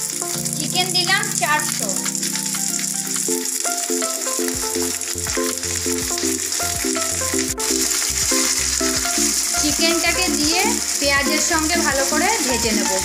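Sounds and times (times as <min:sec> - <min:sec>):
background music: 0:00.0 - 0:13.0
chicken sizzling in hot oil: 0:00.0 - 0:13.0.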